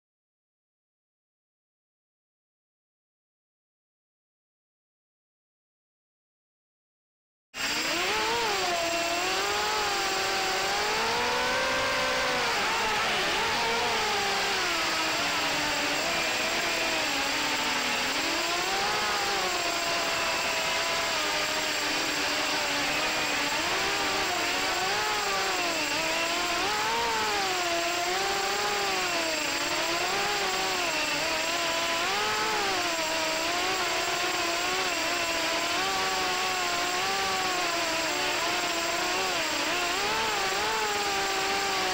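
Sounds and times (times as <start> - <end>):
drone motors whining: 7.6 - 41.9.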